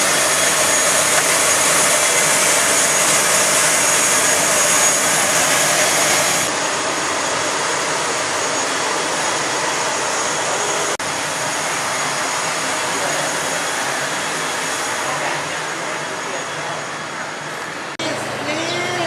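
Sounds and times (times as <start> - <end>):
turboprop engine whine: 0.0 - 19.0.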